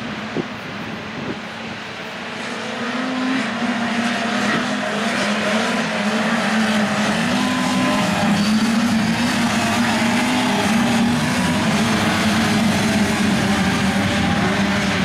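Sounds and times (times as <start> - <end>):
small engines racing: 1.1 - 15.0.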